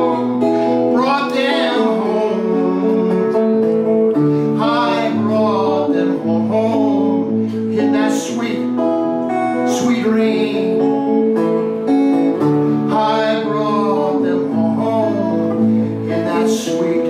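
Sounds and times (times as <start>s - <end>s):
acoustic guitar chords: 0.0s - 17.0s
person singing: 0.0s - 17.0s.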